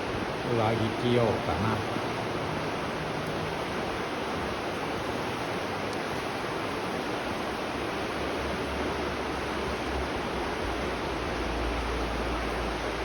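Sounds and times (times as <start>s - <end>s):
flowing spring water: 0.0s - 13.0s.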